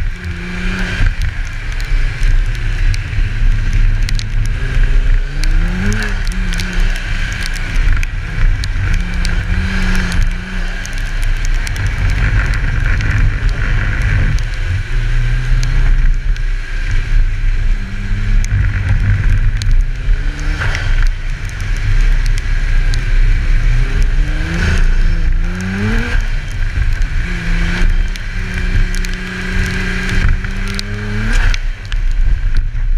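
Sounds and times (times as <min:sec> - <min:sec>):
car engine revving: 0:00.0 - 0:32.7
wind rumbling on camera: 0:00.0 - 0:32.9.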